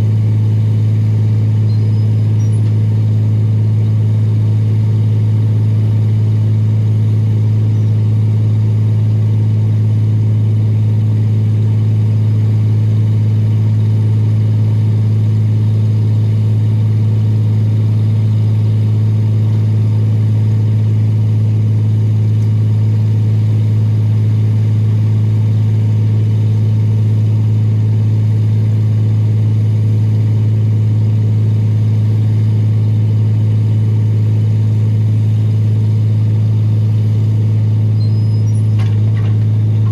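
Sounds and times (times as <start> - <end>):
excavator engine running: 0.0 - 26.5, 33.4 - 39.9.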